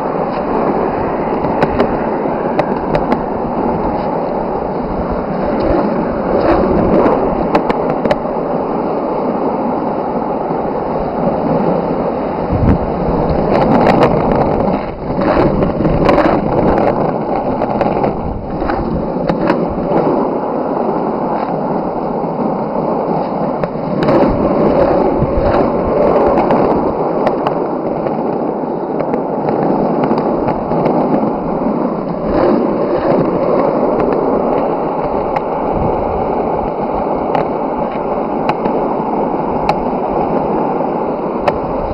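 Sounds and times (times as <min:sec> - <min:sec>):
skateboard wheels rolling on asphalt: 0:00.0 - 0:41.9.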